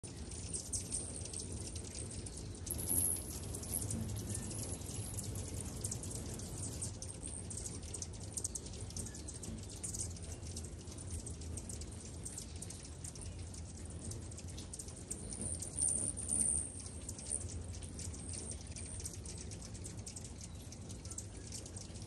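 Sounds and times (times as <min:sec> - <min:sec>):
hummingbirds chipping: 0:00.0 - 0:22.0
low steady hum: 0:00.0 - 0:22.0
squeaky bird chatter: 0:00.1 - 0:22.0.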